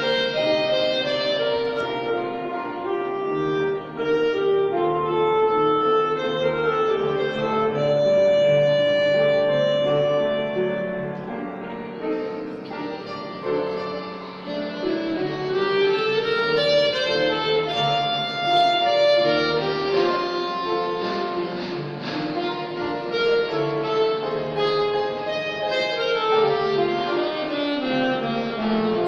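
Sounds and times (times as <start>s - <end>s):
low accompaniment: 0.0s - 29.0s
saxophone melody: 0.0s - 29.0s.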